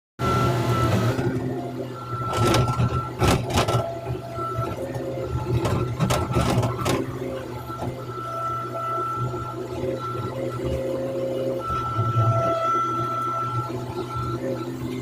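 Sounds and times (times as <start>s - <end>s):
excavator engine drone: 0.2s - 15.0s
hydraulic whine: 0.2s - 15.0s.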